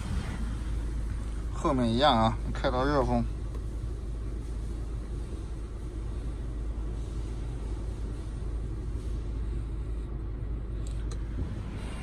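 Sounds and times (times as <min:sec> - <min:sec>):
car blower fan air rushing: 0:00.0 - 0:12.0.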